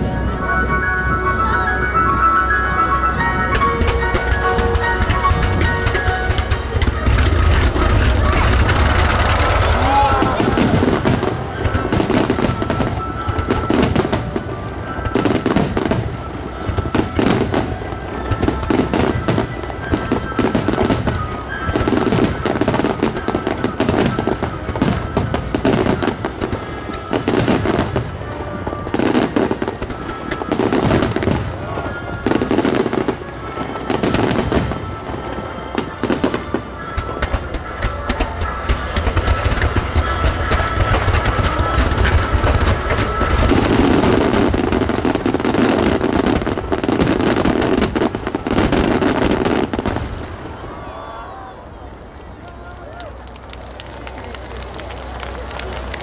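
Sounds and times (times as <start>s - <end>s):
music playing: 0.0s - 50.0s
fireworks bursting: 0.0s - 50.8s.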